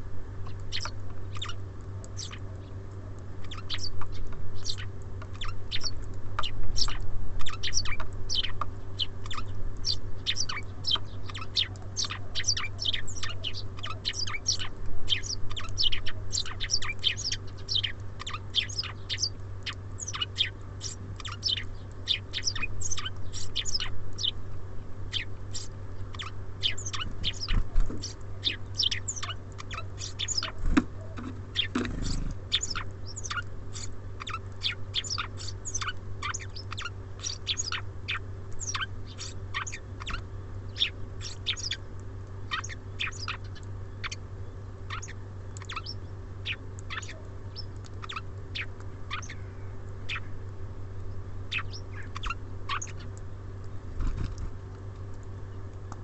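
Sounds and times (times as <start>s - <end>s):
small birds chirping: 0.0s - 56.0s
steady low hum: 0.0s - 56.0s.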